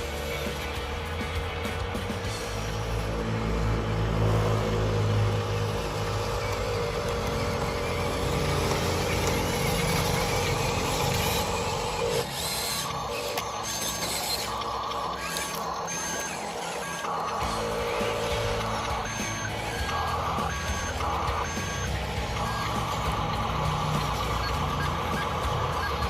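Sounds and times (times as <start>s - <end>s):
small electric motors whirring: 0.0s - 26.0s.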